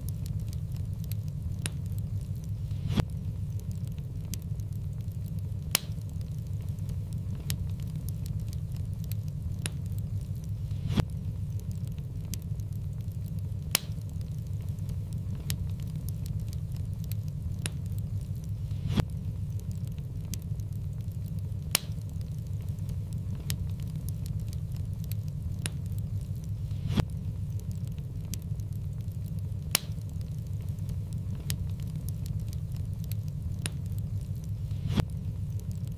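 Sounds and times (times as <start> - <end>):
fire low rumble: 0.0 - 35.9
wood fire crackling and popping: 0.0 - 35.9.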